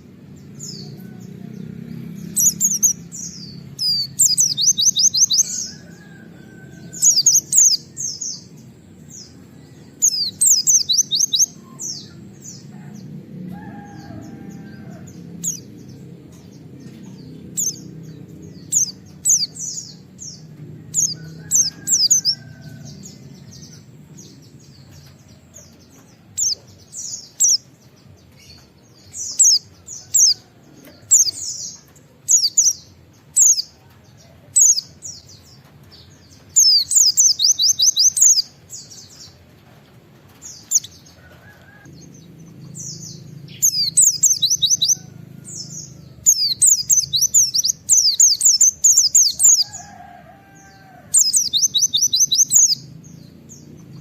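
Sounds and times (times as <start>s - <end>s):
low steady rumble: 0.0s - 49.7s, 50.6s - 54.0s.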